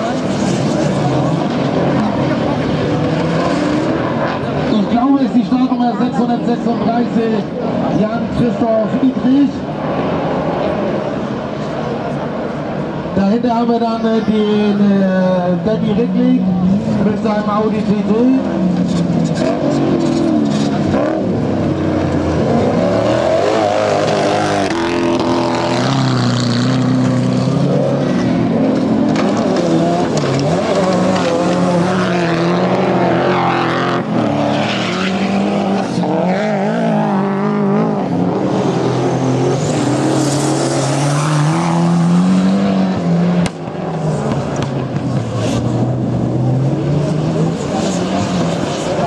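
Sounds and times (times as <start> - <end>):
race car engines revving: 0.0 - 49.0.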